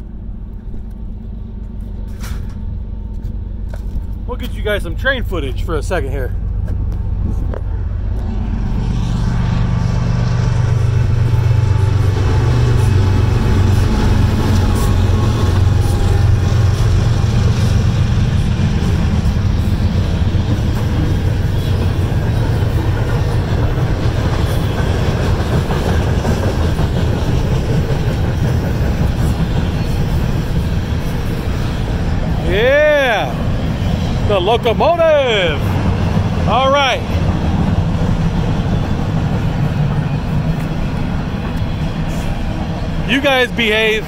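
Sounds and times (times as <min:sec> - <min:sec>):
train passing rumble: 0:00.0 - 0:44.0.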